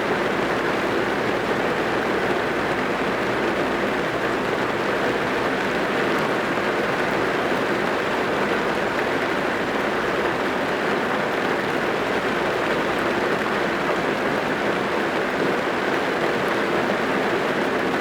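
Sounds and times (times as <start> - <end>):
rain drumming on a car roof: 0.1 - 18.0.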